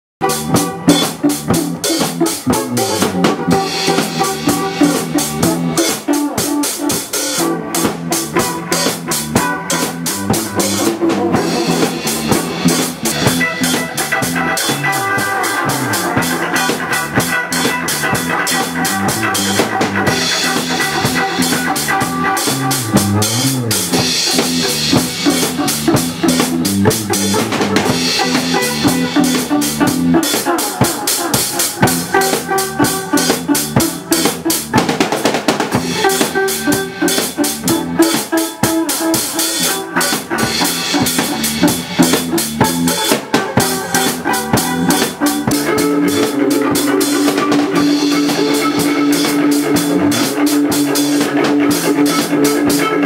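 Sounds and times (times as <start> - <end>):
drum kit beat: 0.2 - 53.0
electric bass: 0.2 - 53.0
electric guitar: 0.2 - 53.0.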